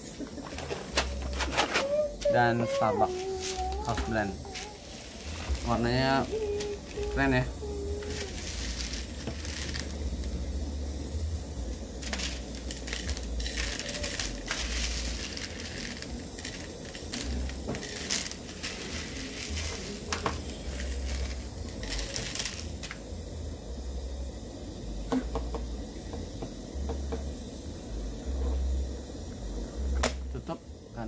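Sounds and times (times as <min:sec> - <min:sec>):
moka pot bubbling and hissing: 0:00.0 - 0:31.0.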